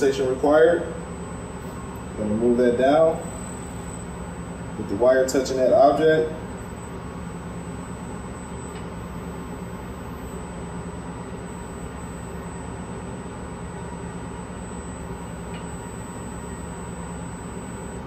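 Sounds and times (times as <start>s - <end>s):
high whine: 0.0s - 18.0s
ventilation fans humming: 0.0s - 18.0s.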